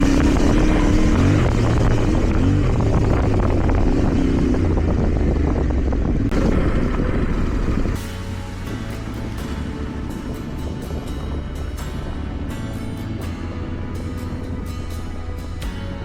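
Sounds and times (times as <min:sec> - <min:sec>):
wind on microphone: 0:00.0 - 0:15.9
motorcycle engine revving: 0:00.0 - 0:16.0.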